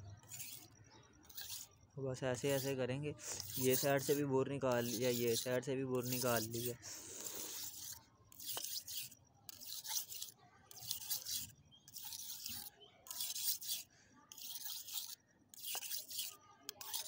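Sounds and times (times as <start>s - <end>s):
knife scraping on sharpening stone: 0.2s - 1.7s, 2.4s - 17.0s.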